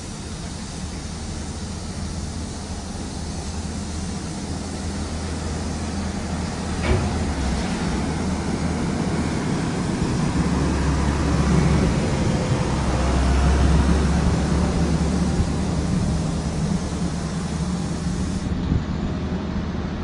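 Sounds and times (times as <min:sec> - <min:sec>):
large diesel engine running: 0:00.0 - 0:20.0.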